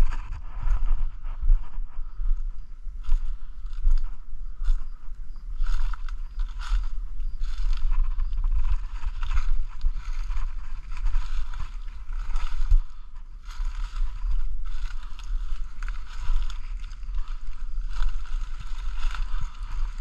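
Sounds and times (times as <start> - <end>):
low microphone rumble: 0.0 - 20.0
brushing past undergrowth: 3.0 - 20.0
footsteps crunching through dry leaves: 3.0 - 20.0.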